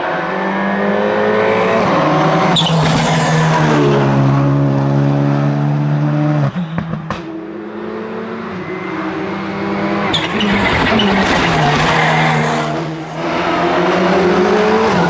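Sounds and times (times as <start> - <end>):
distant car engine: 0.0 - 15.0
rally car engine at high revs: 0.0 - 15.0.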